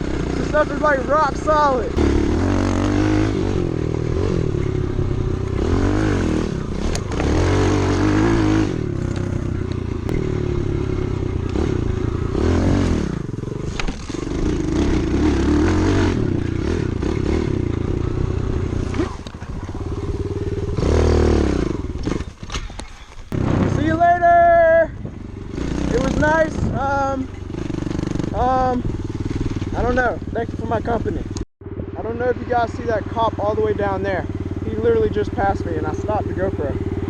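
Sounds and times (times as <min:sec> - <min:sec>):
pit bike engine revving: 0:00.0 - 0:22.7, 0:23.3 - 0:37.0.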